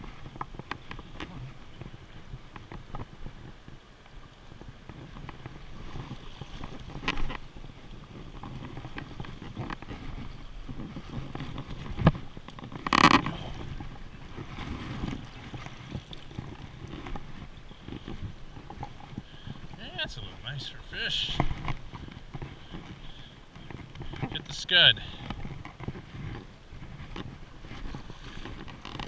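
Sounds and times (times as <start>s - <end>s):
stream water rushing and splashing: 0.0s - 29.0s
wind on microphone: 0.0s - 29.0s.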